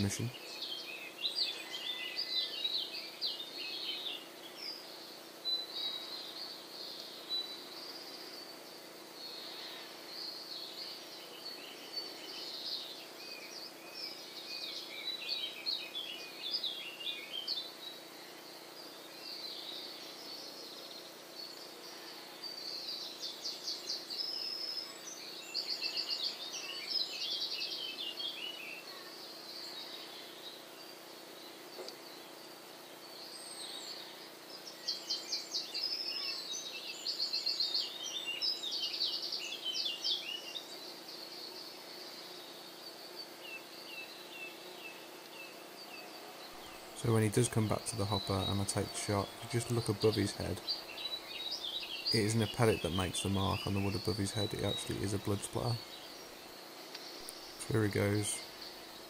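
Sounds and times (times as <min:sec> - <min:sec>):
faint steady hum: 0:00.0 - 0:59.0
songbirds chirping: 0:00.0 - 0:59.0.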